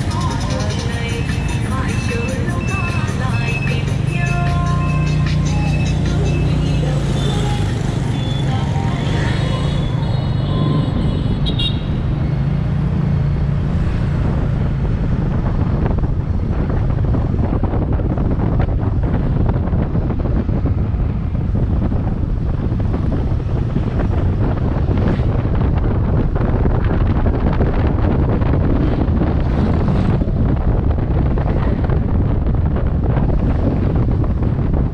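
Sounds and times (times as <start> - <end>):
scooter engine hum: 0.0 - 34.9
street traffic: 0.0 - 34.9
wind rushing over microphone: 0.0 - 34.9.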